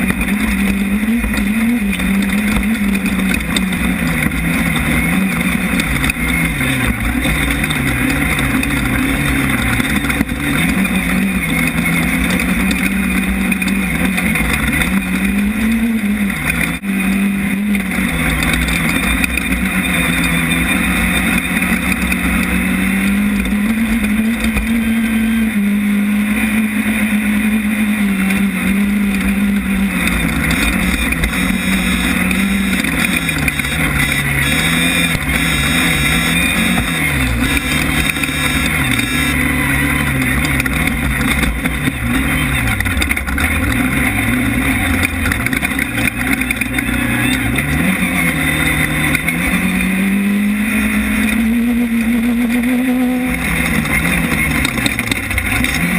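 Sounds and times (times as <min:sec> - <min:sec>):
race car engine revving: 0:00.0 - 0:55.9.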